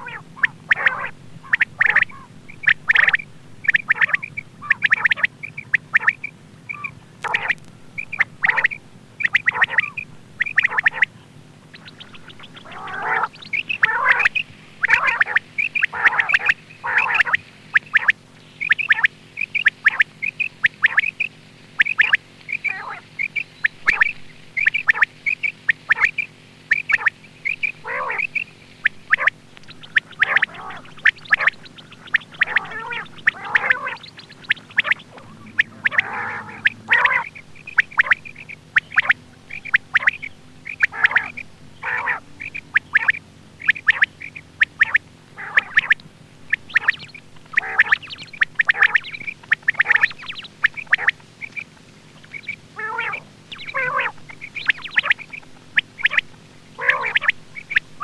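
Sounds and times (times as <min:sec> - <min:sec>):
faint steady hum: 0:00.0 - 0:58.0
quail calling: 0:00.0 - 0:58.0.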